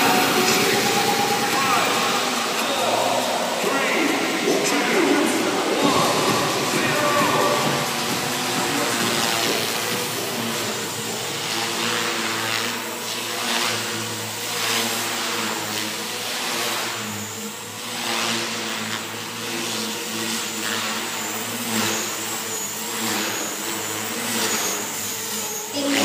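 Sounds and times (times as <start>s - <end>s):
electric motor whine: 0.0s - 26.0s
model helicopter rotor buzz: 0.0s - 26.0s.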